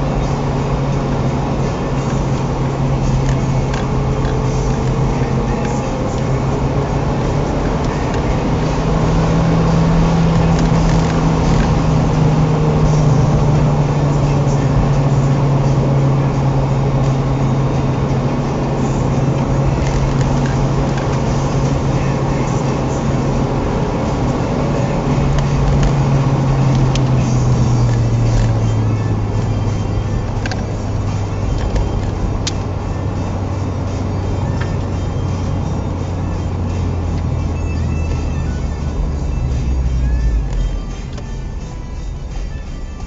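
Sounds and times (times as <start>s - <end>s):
car engine cruising: 0.0s - 43.0s
tyre and road noise: 0.0s - 43.0s.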